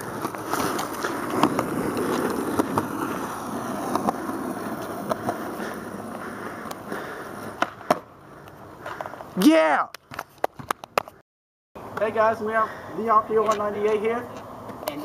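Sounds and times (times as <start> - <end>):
skateboard wheels rolling on concrete: 0.0 - 11.2, 11.8 - 15.0.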